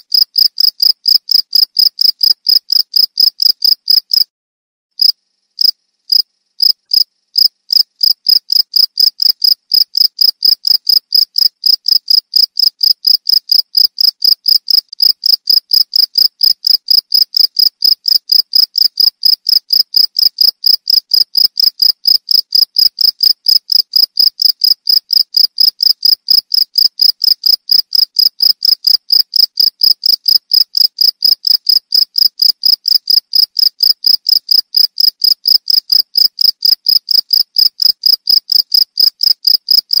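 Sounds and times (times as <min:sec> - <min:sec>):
cricket chirping: 0:00.1 - 0:04.2, 0:05.0 - 0:40.0.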